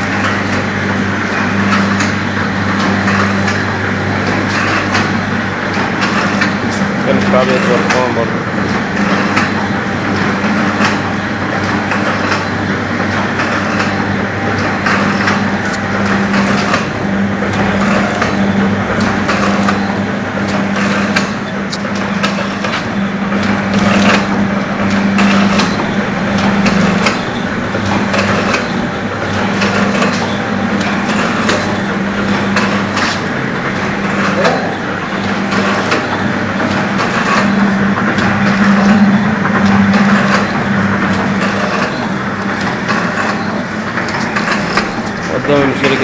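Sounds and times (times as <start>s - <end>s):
machine humming: 0.0s - 46.0s
rapid mechanical clicks: 0.1s - 46.0s.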